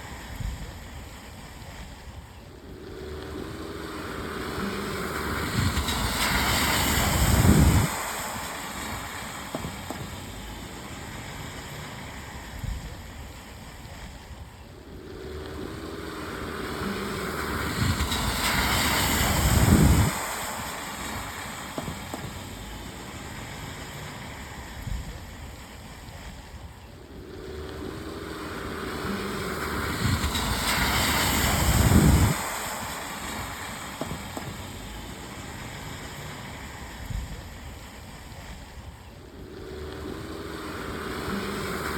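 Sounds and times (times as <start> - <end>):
cars passing on wet road: 0.0 - 41.9
rain hissing: 0.0 - 41.9.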